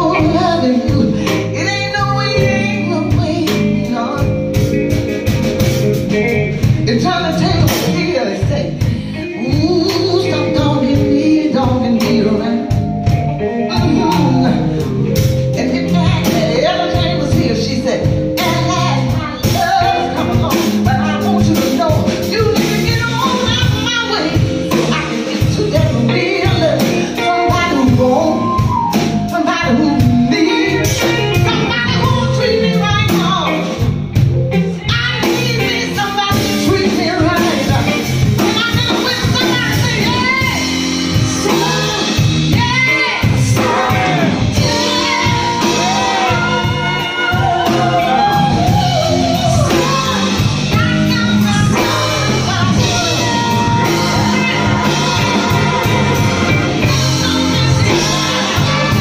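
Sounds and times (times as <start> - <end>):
drums: 0.0 - 59.0
electric guitar: 0.0 - 59.0
woman singing: 0.0 - 59.0.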